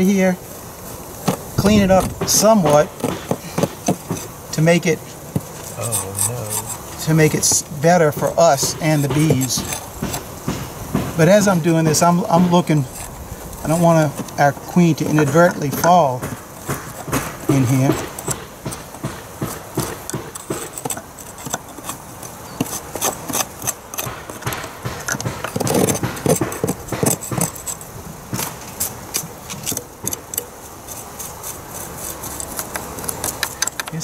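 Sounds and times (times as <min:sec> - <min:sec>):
metal scraper scraping wood: 0:01.2 - 0:34.0.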